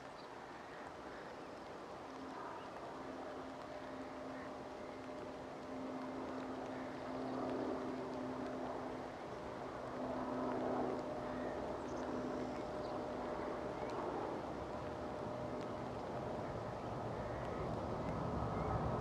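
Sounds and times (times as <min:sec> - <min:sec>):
distant jet engines droning: 0:00.0 - 0:19.0.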